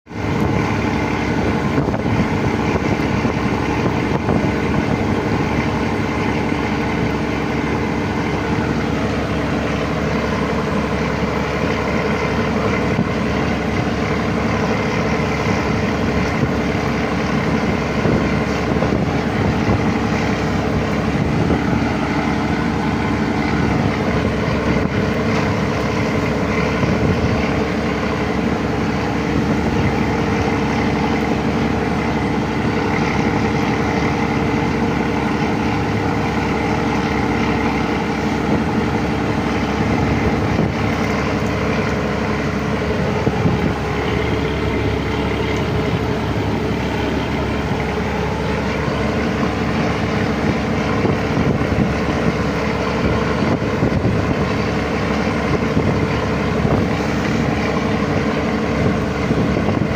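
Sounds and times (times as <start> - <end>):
engine humming: 0.1 - 59.9.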